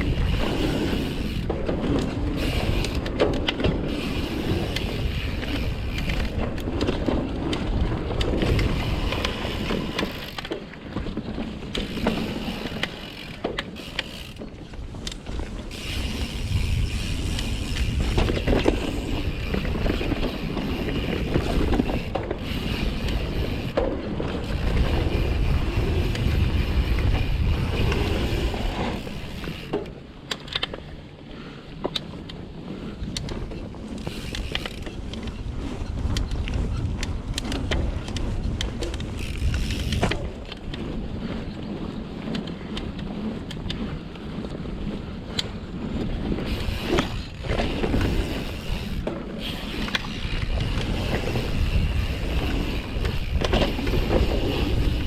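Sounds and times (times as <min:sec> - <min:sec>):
wind on microphone: 0:00.0 - 0:13.4, 0:14.1 - 0:29.7, 0:32.4 - 0:55.0
bike rattling over bumps: 0:00.0 - 0:55.0
bike tyres rolling on dirt: 0:00.0 - 0:55.0.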